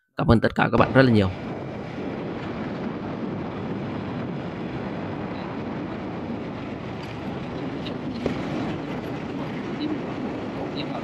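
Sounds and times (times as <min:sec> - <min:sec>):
wind and road noise: 0:00.8 - 0:11.0.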